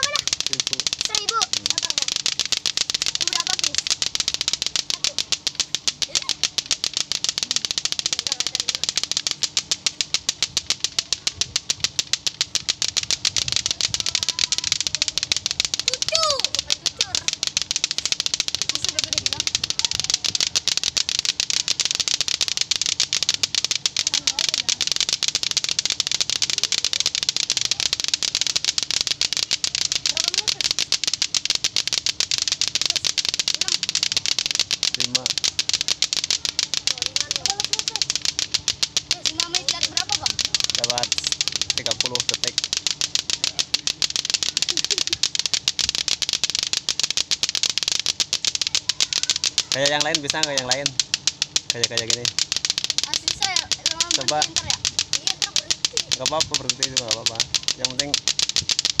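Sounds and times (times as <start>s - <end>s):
plastic balls clacking together: 0.0s - 59.0s.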